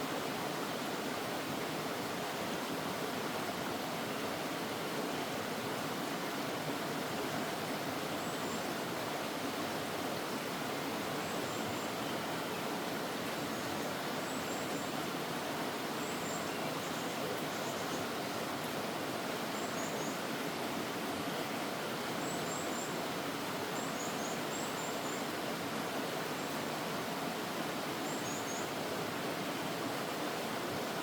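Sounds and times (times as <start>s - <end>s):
stream rushing water: 0.0s - 31.0s.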